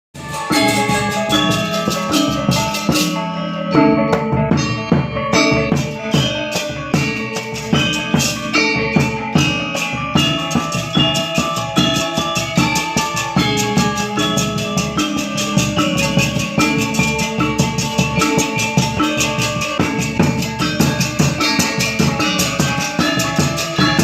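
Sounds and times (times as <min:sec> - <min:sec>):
drum strokes: 0:00.2 - 0:24.0
metallophones and gongs ringing: 0:00.2 - 0:24.0.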